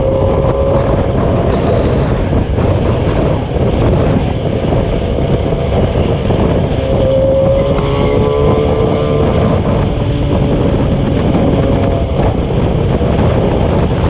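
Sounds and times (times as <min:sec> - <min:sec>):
engine and road rumble: 0:00.0 - 0:14.0
wind buffeting microphone: 0:00.0 - 0:14.0.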